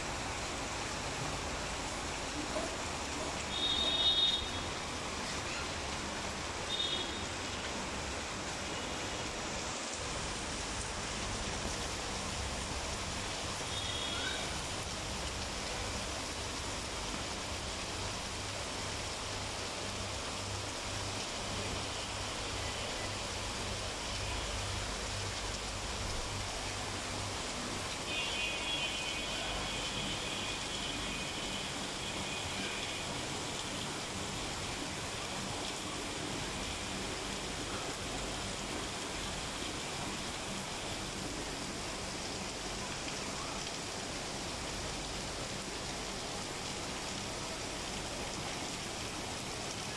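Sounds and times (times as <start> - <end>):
heavy rain on rooftops: 0.0 - 49.9.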